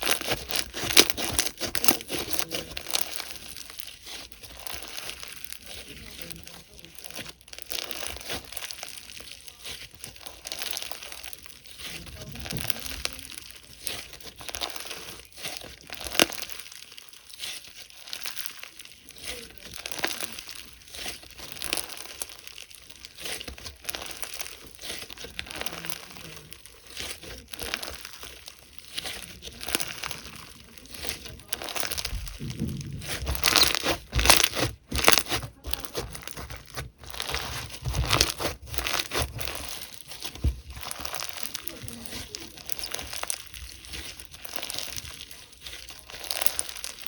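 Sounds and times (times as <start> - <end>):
slime squeezed with crackles: 0.0 - 47.0.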